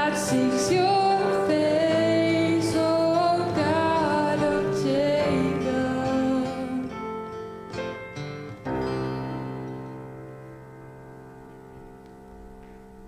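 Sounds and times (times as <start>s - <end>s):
keyboard and guitar chord: 0.0s - 11.8s.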